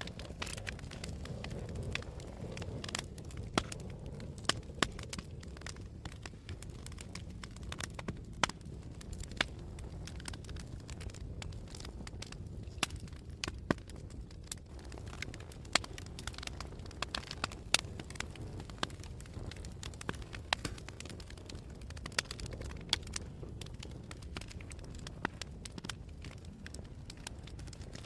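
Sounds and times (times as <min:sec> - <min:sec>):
fire crackling and popping: 0:00.0 - 0:28.0
low rush of flames: 0:00.0 - 0:28.0.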